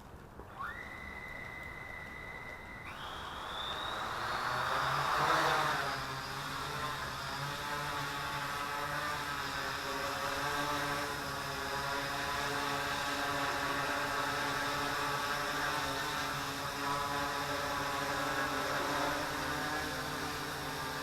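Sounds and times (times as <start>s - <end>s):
quadcopter propellers buzzing: 0.5s - 21.0s.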